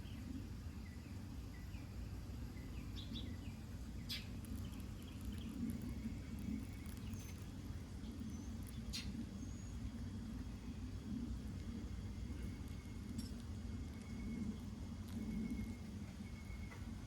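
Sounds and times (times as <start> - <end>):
small birds chirping: 0.0 - 9.9, 12.2 - 16.8
low background rumble: 0.0 - 17.0.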